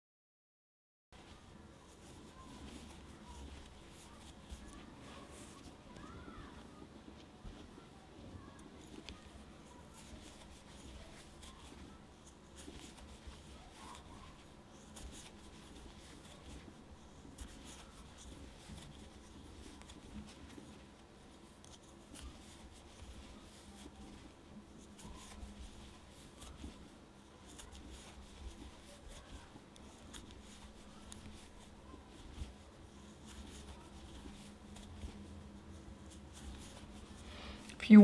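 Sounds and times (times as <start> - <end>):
crochet hook scraping yarn: 1.3 - 37.8
small irregular clicks: 1.3 - 37.8.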